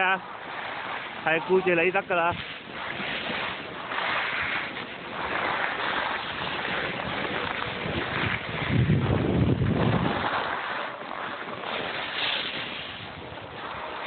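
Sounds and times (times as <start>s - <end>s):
snowboard sliding over snow: 0.0s - 14.0s
wind on microphone: 0.0s - 14.0s.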